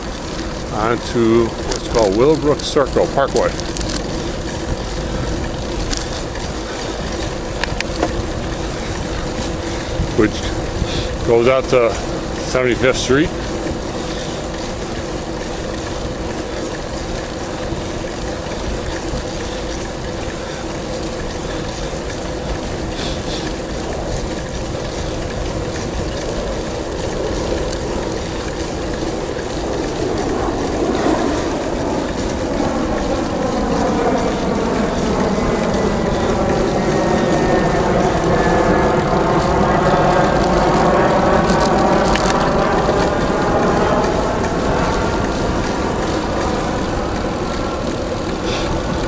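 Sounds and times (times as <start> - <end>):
bicycle tyre hum: 0.0 - 49.0
wind noise on microphone: 0.0 - 49.0.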